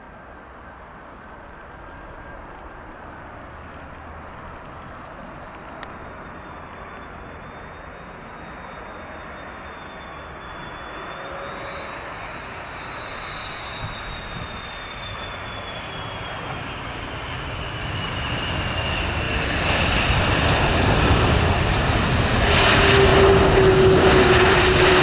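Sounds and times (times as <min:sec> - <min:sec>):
faint high whine: 0:00.0 - 0:25.0
jet engines rushing: 0:00.0 - 0:25.0.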